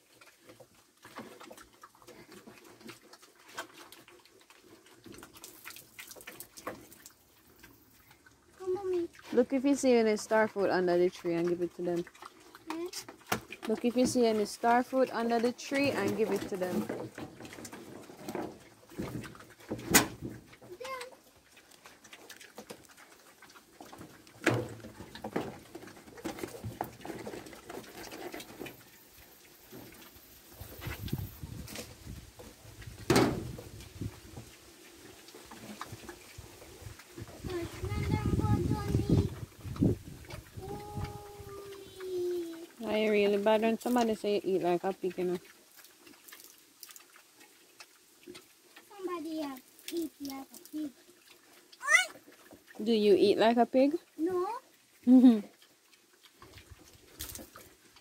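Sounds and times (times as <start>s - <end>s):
pigs chomping and smacking: 0.0s - 52.8s, 53.5s - 58.0s.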